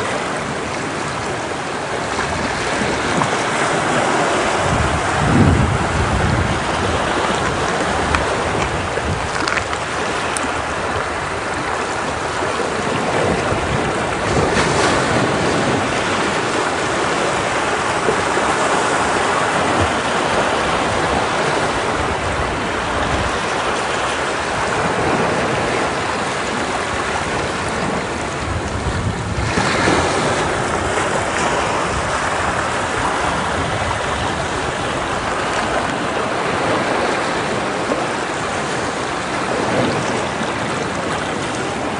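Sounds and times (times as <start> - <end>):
waves crashing against rocks: 0.0 - 41.9.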